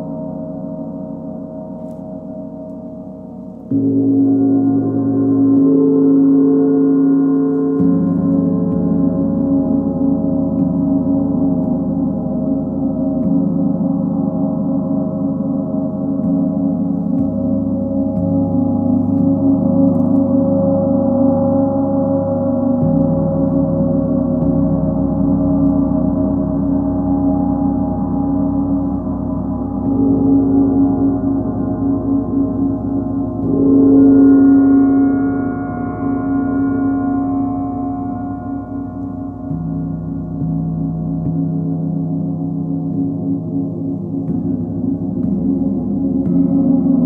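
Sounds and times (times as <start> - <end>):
large gongs ringing: 2.5 - 47.0.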